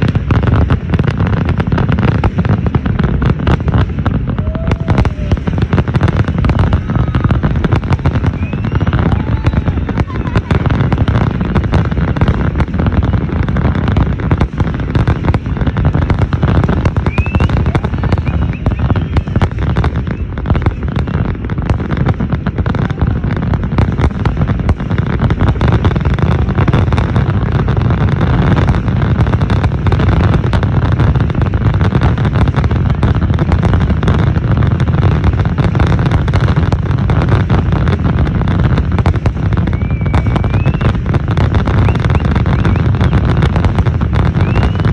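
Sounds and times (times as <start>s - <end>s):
fireworks booming: 0.0s - 44.9s.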